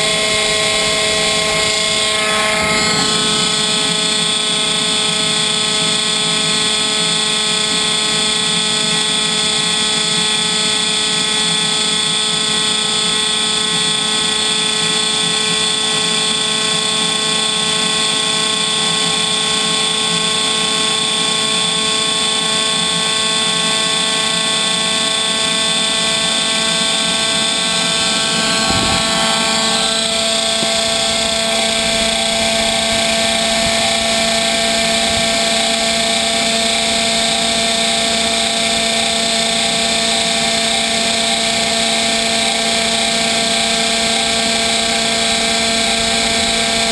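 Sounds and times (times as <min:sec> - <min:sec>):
gas turbine whining: 0:00.0 - 0:46.9.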